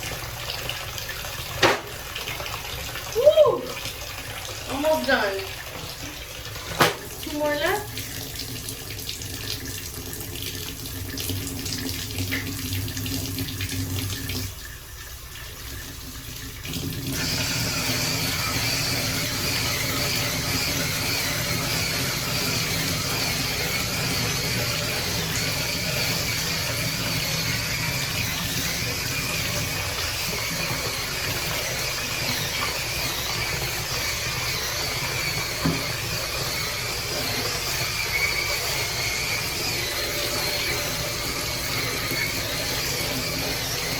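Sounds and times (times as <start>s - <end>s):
tap water running into sink: 0.0s - 43.9s.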